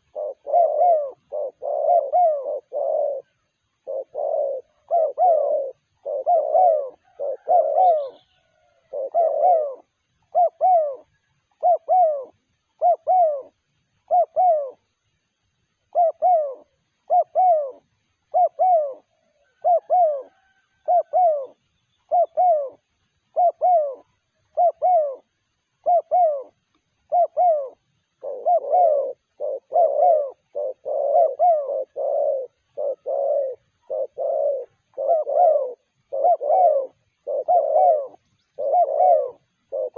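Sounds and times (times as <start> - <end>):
dove cooing: 0.0 - 15.2, 15.8 - 39.9.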